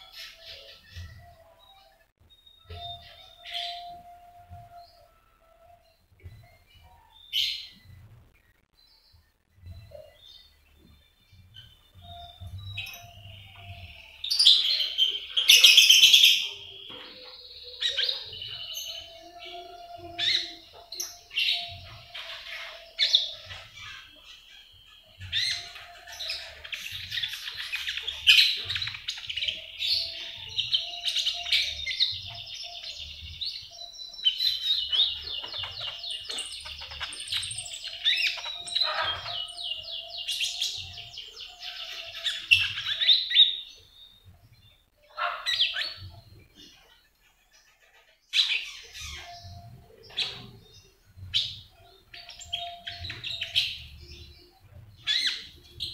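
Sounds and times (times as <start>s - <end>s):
songbird chirping and trilling: 0.0s - 55.9s.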